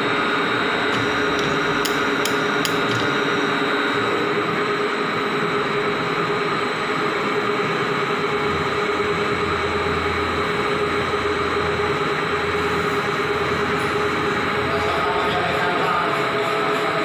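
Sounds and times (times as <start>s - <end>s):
deeper machine hum: 0.0s - 17.0s
lathe machine whine: 0.0s - 17.0s.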